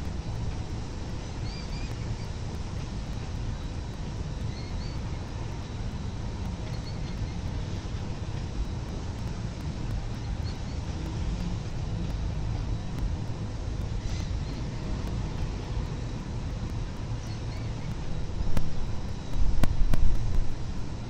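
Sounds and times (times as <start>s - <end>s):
low rumble of urban background: 0.0s - 21.0s.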